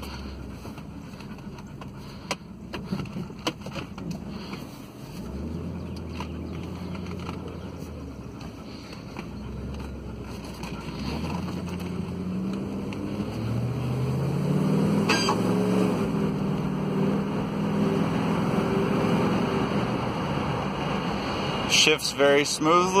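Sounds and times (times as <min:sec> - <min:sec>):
car engine accelerating: 0:00.0 - 0:23.0
tyre and road noise: 0:00.0 - 0:23.0.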